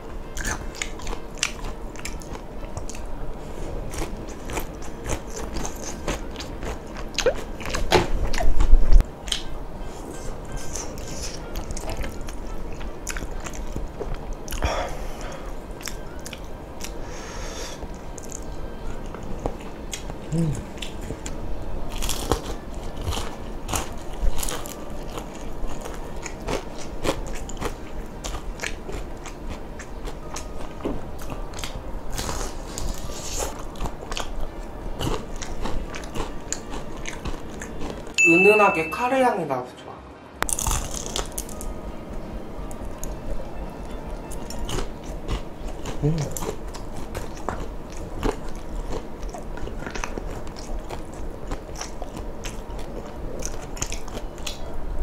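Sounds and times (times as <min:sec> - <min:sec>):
crunchy chewing of fried chicken: 0:00.2 - 0:09.5, 0:10.5 - 0:38.2, 0:40.5 - 0:41.7, 0:43.8 - 0:55.0.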